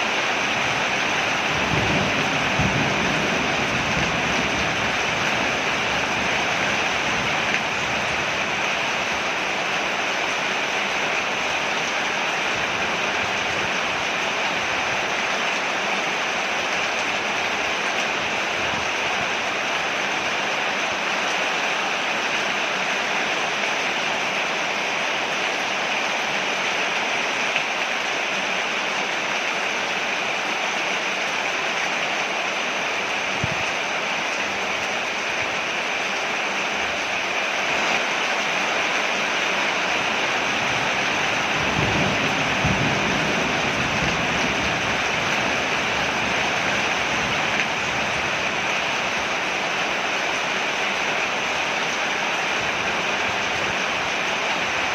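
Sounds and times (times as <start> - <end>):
rain falling on a porch: 0.0 - 54.9.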